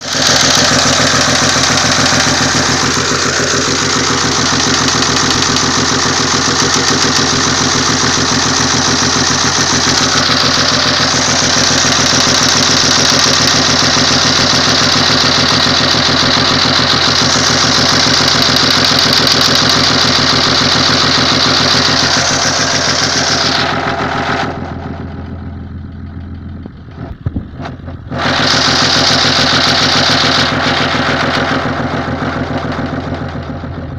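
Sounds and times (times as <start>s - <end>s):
diesel engine running: 0.0s - 33.9s
rhythmic engine knock: 0.0s - 33.9s.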